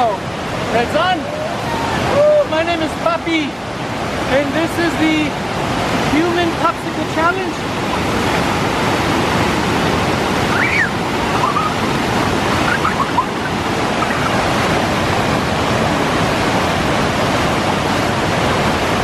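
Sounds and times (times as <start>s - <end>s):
waterfall splashing over rocks: 0.0s - 19.0s.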